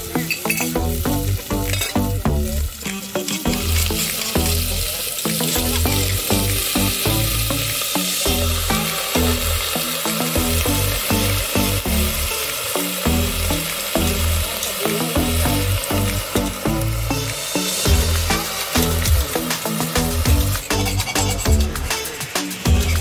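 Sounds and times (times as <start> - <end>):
background music with steady beat: 0.0 - 23.0
chicken sizzling in hot oil: 0.0 - 23.0.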